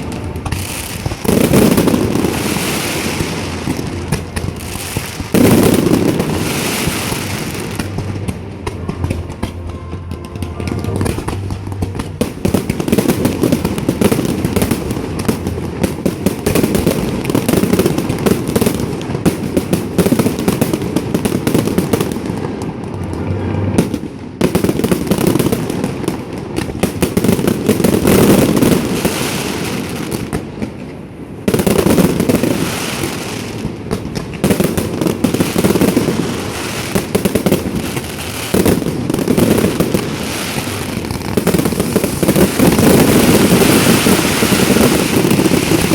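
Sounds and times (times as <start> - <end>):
fireworks booming and crackling: 0.0 - 45.9.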